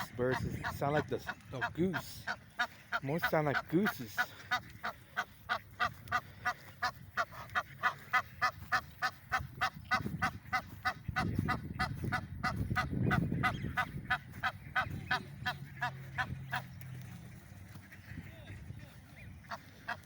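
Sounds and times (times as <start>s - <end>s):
birds honking: 0.0s - 20.0s.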